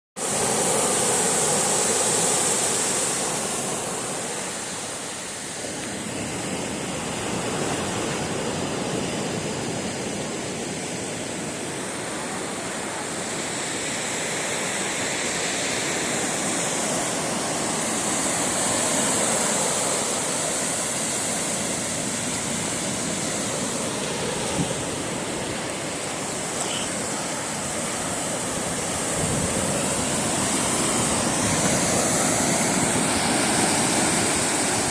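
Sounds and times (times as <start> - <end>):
sea waves breaking: 0.2 - 34.9.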